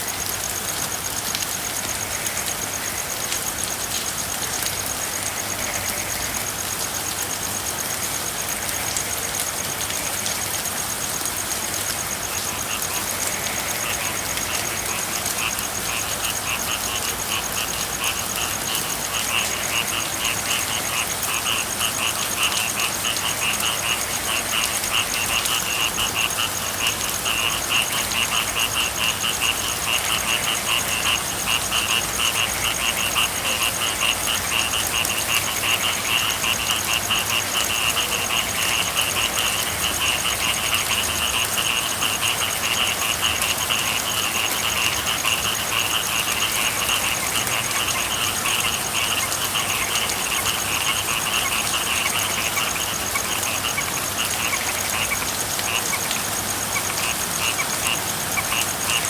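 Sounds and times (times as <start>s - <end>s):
frogs trilling: 0.0s - 59.0s.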